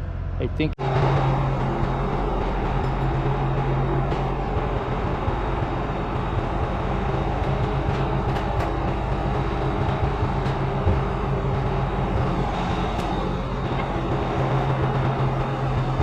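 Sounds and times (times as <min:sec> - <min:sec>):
constant low hum: 0:00.0 - 0:16.0
low mechanical rumble: 0:00.0 - 0:16.0.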